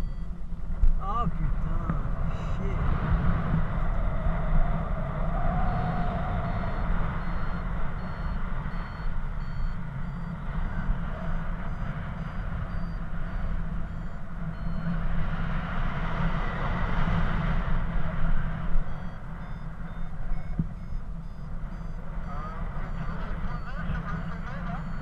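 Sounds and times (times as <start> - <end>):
variometer beeping: 0.0 - 16.3, 17.4 - 25.0
wind on microphone: 0.0 - 25.0.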